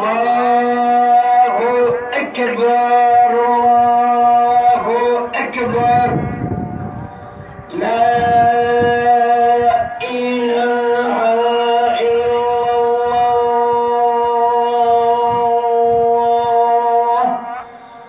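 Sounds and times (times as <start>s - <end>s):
man chanting call to prayer: 0.0s - 18.0s.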